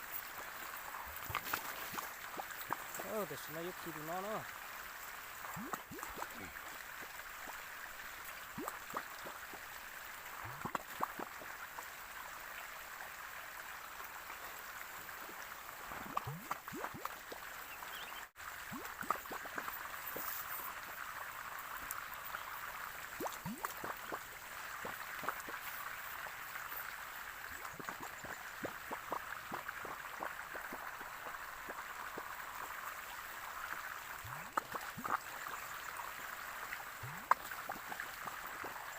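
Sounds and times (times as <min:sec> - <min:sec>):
small bubbling plops: 0:00.0 - 0:12.3, 0:15.1 - 0:38.9
water running and gurgling: 0:00.0 - 0:38.9.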